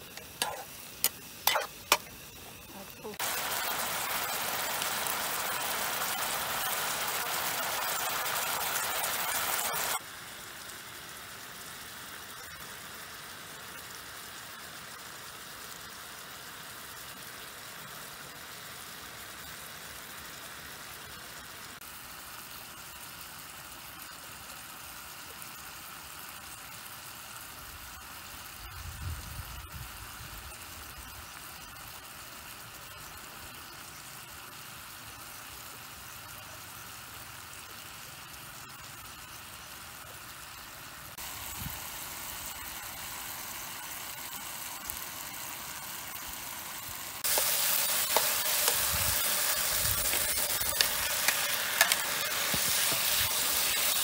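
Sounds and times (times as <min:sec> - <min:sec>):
faint sizzling in a frying pan: 0:00.0 - 0:54.0.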